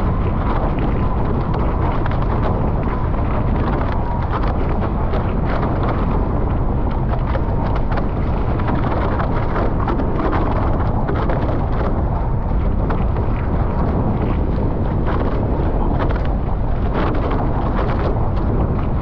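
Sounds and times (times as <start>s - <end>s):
water splashing against hulls: 0.0s - 19.0s
wind buffeting microphone: 0.0s - 19.0s.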